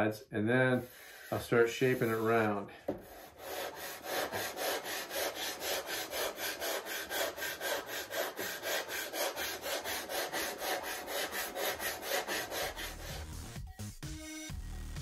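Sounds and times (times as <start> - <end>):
sanding bar scraping wood: 0.8 - 13.4.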